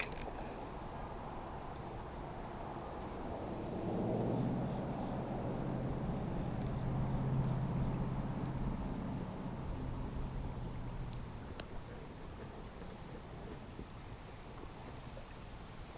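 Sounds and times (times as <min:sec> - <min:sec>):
insects chorus: 0:00.0 - 0:15.9
low engine hum: 0:00.0 - 0:15.9.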